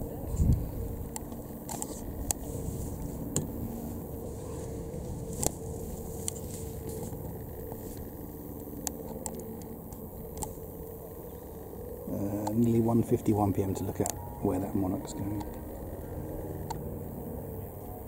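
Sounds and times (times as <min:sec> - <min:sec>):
distant aircraft engine drone: 0:00.0 - 0:18.0.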